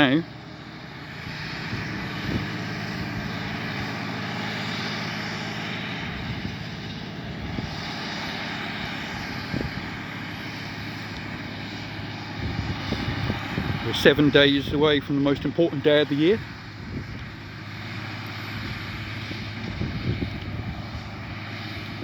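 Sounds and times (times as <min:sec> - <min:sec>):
tractor engine drone: 0:00.0 - 0:22.0.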